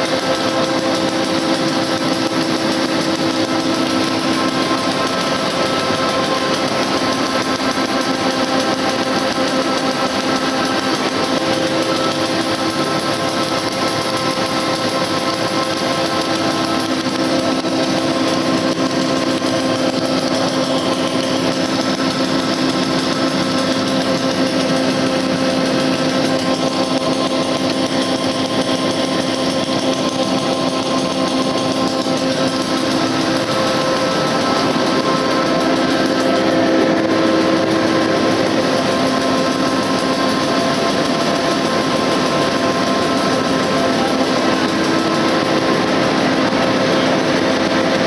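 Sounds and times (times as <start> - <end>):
printing machine running: 0.0 - 48.0.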